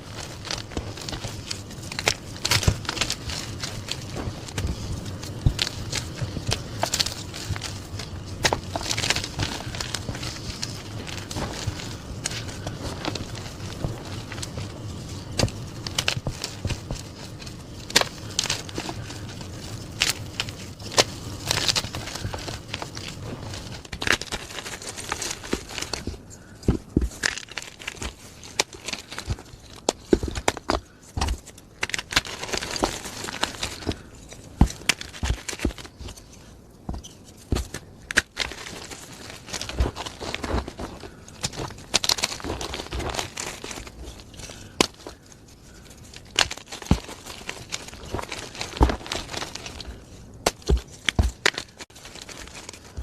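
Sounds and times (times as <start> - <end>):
chalk crunching: 0.0 - 53.0
crumbly rustle: 0.0 - 53.0.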